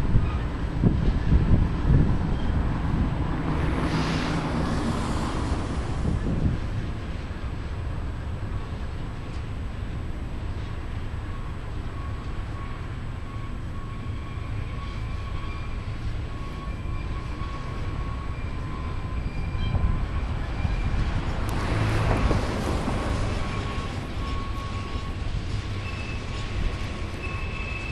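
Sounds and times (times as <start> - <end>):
freight train rumbling past: 0.0 - 27.9.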